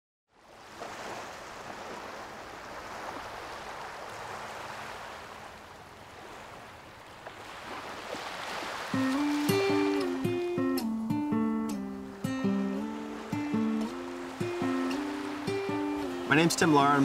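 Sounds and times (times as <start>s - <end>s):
small waves washing onto beach: 0.3s - 11.0s, 11.8s - 17.0s.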